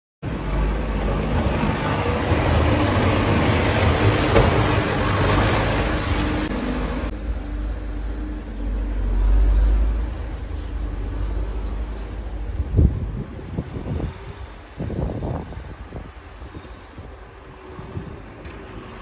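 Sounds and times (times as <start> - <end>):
wind rumbling on microphone: 0.2 - 19.0.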